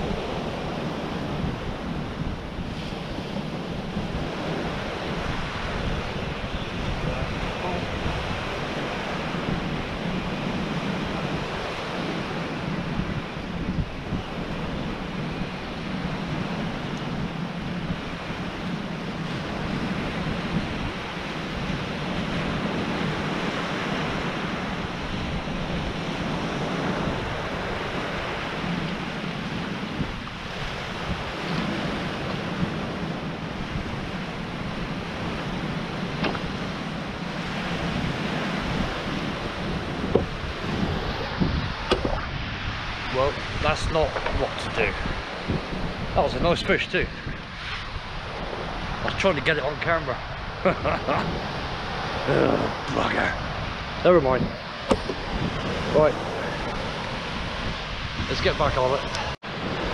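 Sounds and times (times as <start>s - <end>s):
surf washing over pebbles: 0.0s - 59.9s
wind rumbling on microphone: 0.0s - 59.9s.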